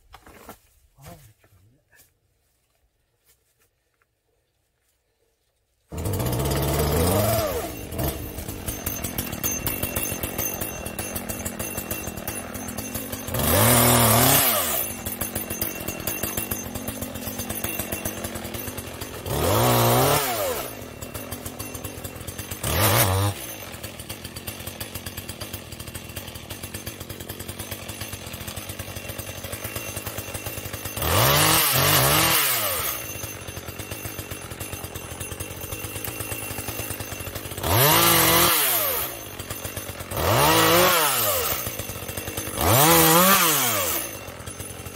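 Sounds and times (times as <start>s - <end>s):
chainsaw idling and revving: 5.9s - 44.9s.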